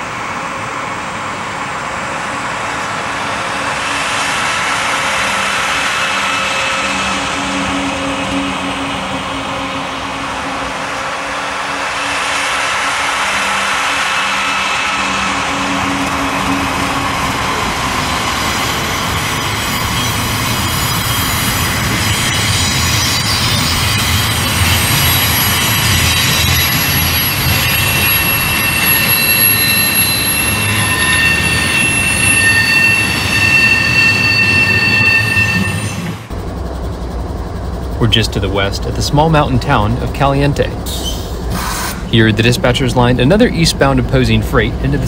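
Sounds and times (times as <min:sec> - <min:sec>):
low train rumble: 0:00.0 - 0:45.0
train wheels squealing: 0:01.8 - 0:36.3, 0:38.1 - 0:45.0.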